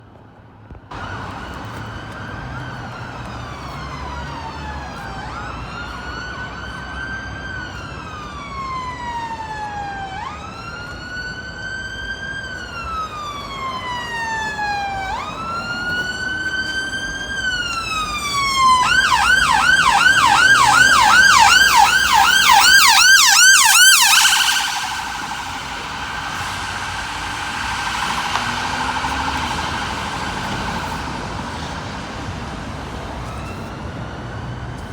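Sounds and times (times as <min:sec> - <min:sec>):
road traffic: 0:00.0 - 0:34.9
electronic siren wailing: 0:01.0 - 0:32.2
siren fast yelp: 0:01.8 - 0:31.6.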